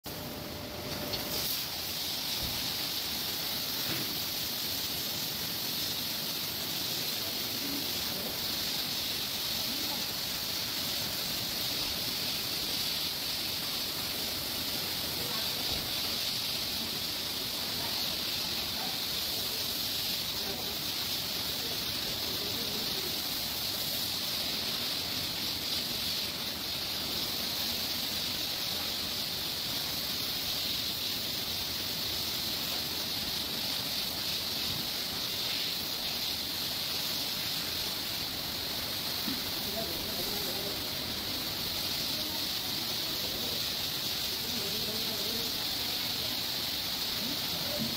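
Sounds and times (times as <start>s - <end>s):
pressure washer spraying water: 0.0s - 47.9s.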